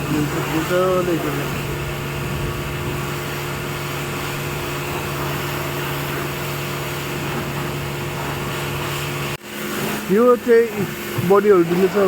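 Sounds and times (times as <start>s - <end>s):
hiss of water spray: 0.0s - 12.0s
pressure washer motor hum: 0.0s - 12.0s.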